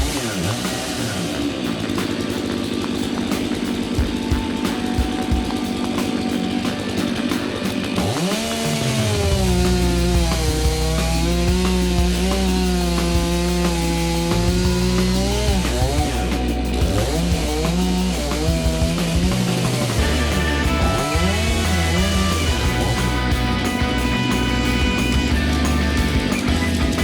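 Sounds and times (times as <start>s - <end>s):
chainsaw revving and cutting wood: 0.0s - 27.0s
rock music: 0.0s - 27.0s.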